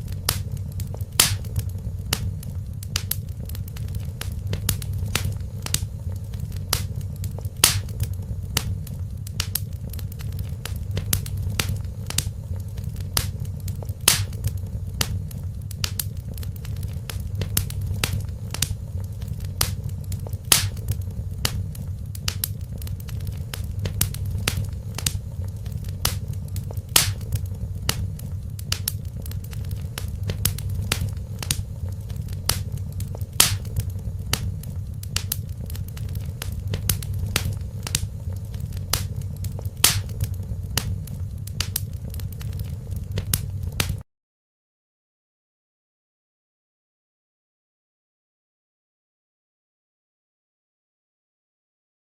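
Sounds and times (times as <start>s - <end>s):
low rumble of burning fire: 0.0s - 44.0s
wood fire crackling: 0.0s - 44.0s.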